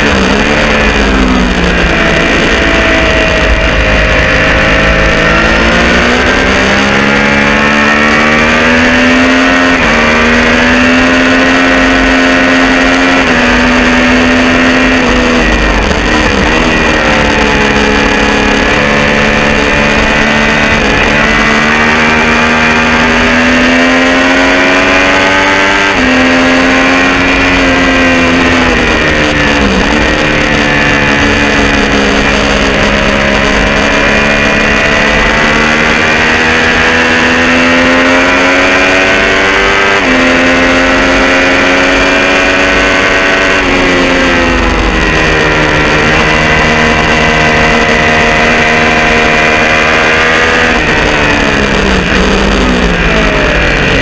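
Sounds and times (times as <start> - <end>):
motorcycle engine at full throttle: 0.0 - 54.0.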